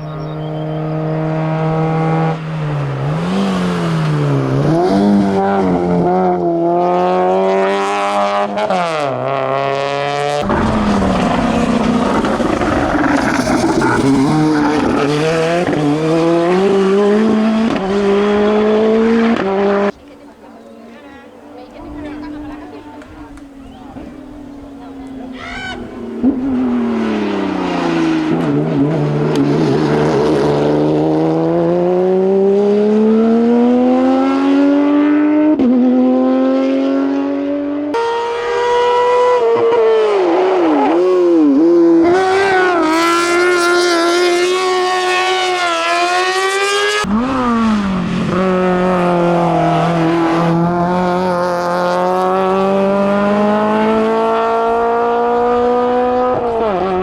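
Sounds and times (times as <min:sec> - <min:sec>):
racing car engines at full throttle: 0:00.0 - 0:57.0.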